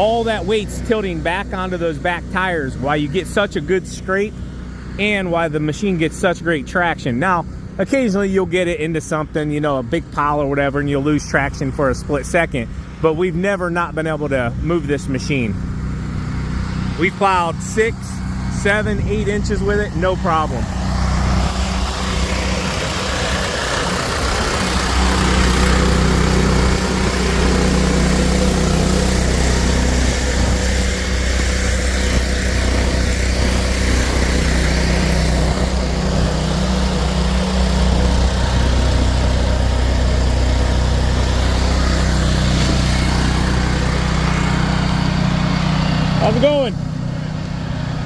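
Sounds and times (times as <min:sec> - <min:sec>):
snowplow engine running: 0:00.0 - 0:48.0.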